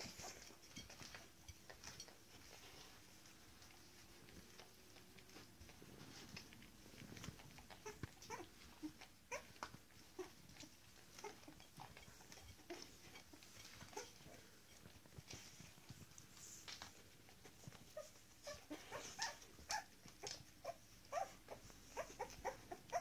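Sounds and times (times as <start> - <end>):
puppies whimpering and squeaking: 0.0 - 2.9, 4.8 - 23.0
light clicks and scrapes: 0.0 - 23.0.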